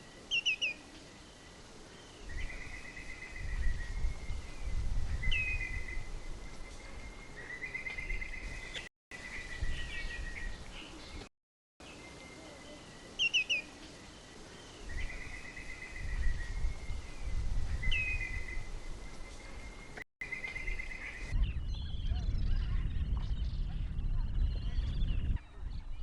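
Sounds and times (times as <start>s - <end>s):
birds chirping: 0.2s - 26.0s.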